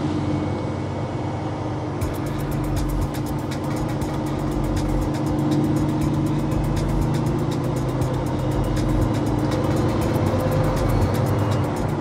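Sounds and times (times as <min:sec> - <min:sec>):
diesel engine drone: 0:00.0 - 0:12.0
road noise: 0:00.0 - 0:12.0.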